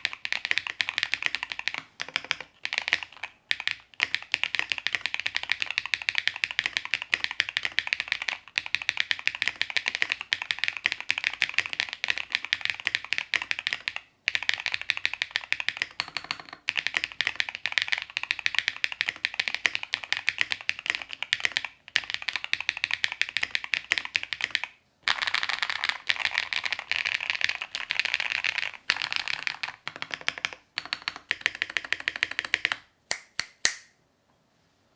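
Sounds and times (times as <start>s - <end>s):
mechanical keyboard typing: 0.0s - 32.8s.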